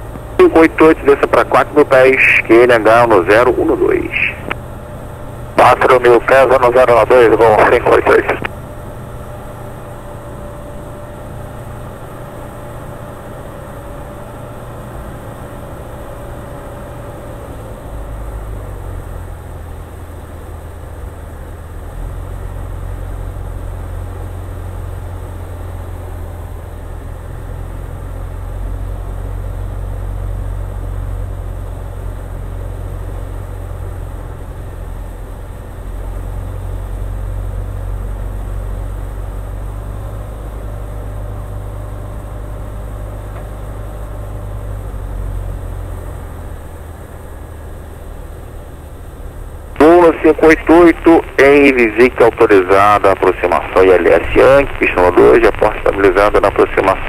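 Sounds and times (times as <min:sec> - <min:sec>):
aircraft engine drone: 0:00.0 - 0:57.0
faint steady whine: 0:00.0 - 0:57.0.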